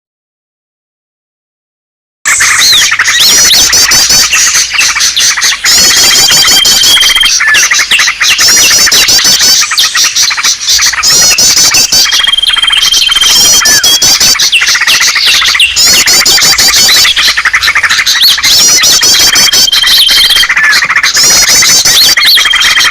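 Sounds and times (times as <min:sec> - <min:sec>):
songbirds chirping in chorus: 0:02.3 - 0:22.9.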